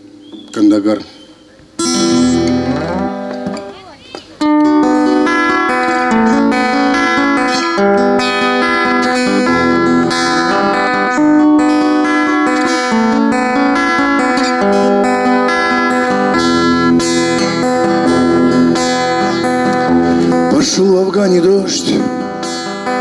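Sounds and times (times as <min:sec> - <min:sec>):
acoustic guitar chords: 0:01.5 - 0:23.0.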